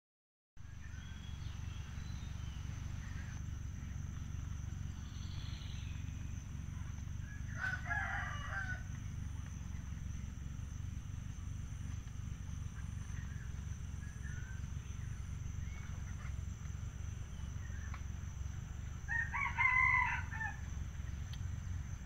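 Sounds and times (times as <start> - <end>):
steady low rumble: 0.6 - 22.0.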